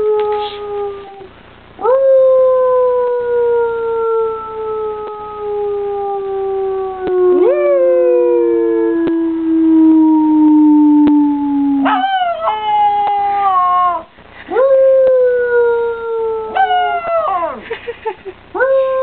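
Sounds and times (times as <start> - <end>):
puppy howling: 0.0 - 17.6.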